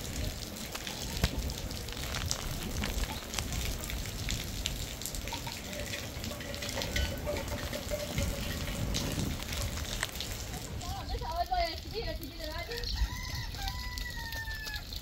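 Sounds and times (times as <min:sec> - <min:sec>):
low uneven rumble: 0:00.0 - 0:12.7
heavy rain falling: 0:00.0 - 0:15.0.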